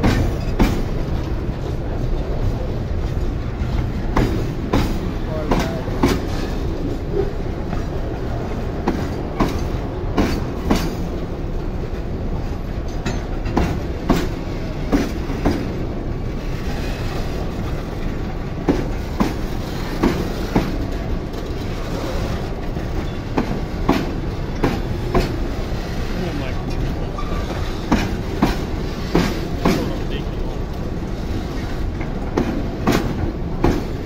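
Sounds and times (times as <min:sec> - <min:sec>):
wheel clacks over rail joint: 0:00.0 - 0:02.3, 0:03.0 - 0:11.3, 0:12.0 - 0:34.0
freight train rumbling past: 0:00.0 - 0:34.0.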